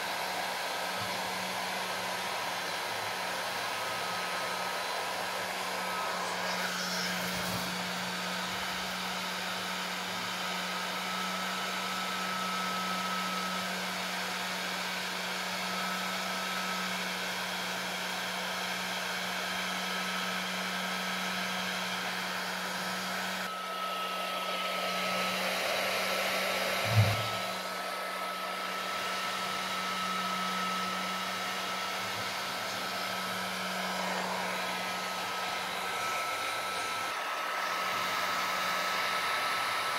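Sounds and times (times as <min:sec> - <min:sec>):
heat gun blowing: 0:00.0 - 0:39.9.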